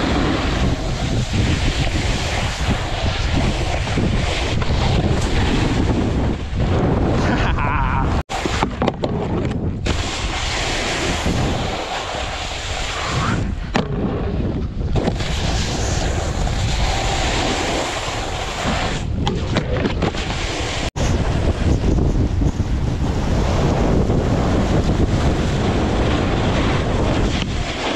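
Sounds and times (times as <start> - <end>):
snowboard scraping over snow: 0.0 - 27.9
wind buffeting microphone: 0.0 - 27.9.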